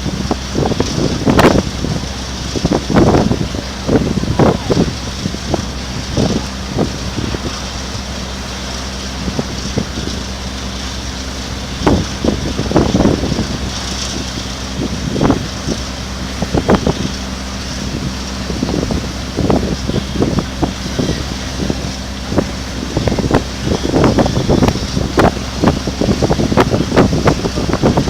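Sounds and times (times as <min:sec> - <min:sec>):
low engine drone: 0:00.0 - 0:28.0
wind buffeting microphone: 0:00.0 - 0:28.0.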